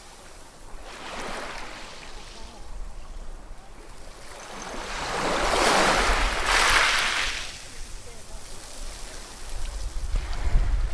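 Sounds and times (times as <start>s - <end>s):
ocean waves crashing on shore: 0.0s - 10.9s.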